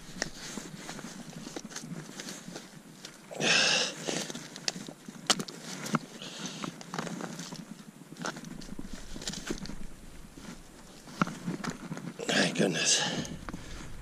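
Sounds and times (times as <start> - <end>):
rustling noise: 0.0 - 3.3, 3.9 - 14.0.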